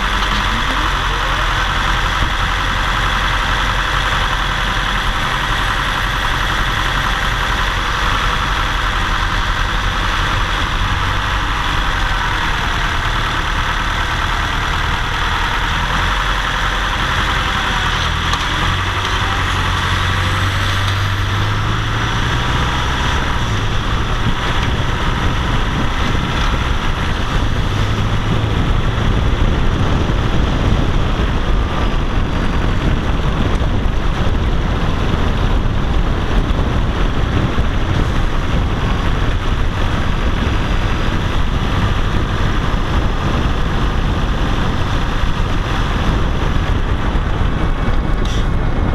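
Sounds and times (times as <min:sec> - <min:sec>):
car engine pulling uphill: 0:00.0 - 0:48.9
road noise: 0:00.0 - 0:48.9.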